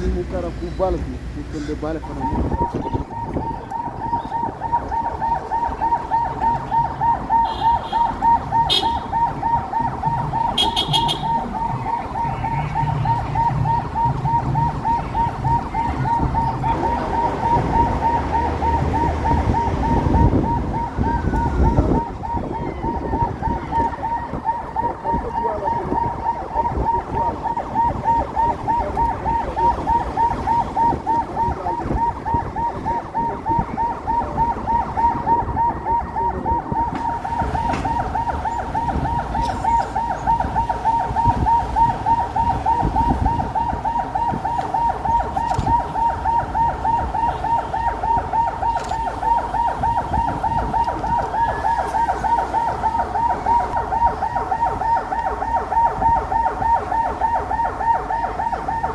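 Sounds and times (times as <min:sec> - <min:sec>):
siren yelping: 0:00.0 - 0:58.9
traffic engine and road noise: 0:00.0 - 0:58.9.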